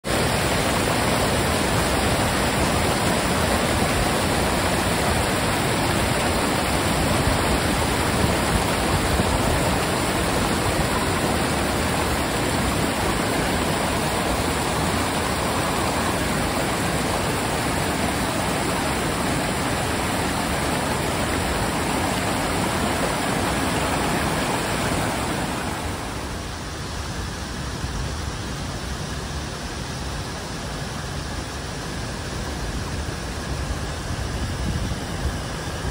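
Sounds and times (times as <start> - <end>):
river rushing over rocks: 0.0 - 35.9.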